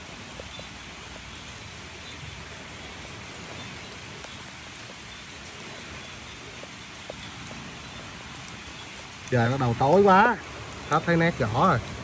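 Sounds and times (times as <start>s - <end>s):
heavy rain on hard ground: 0.0s - 12.0s.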